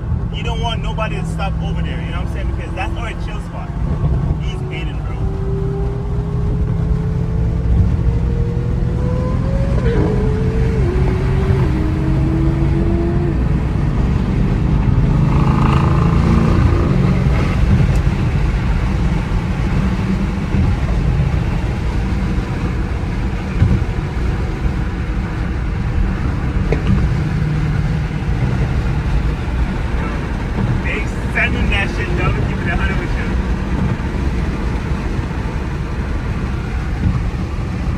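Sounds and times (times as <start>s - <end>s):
car engine and road noise: 0.0s - 37.9s.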